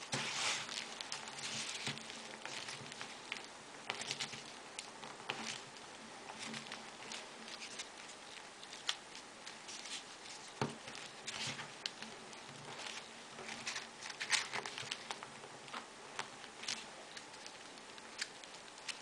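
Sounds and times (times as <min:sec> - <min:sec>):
paper rustling and clicking: 0:00.0 - 0:19.0.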